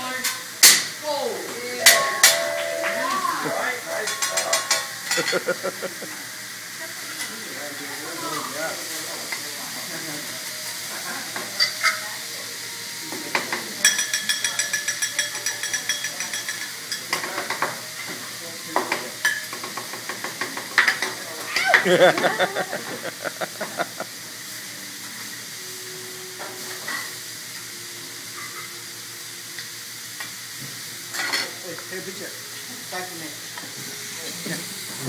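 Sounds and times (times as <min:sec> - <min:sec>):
food sizzling on a griddle: 0:00.0 - 0:35.0.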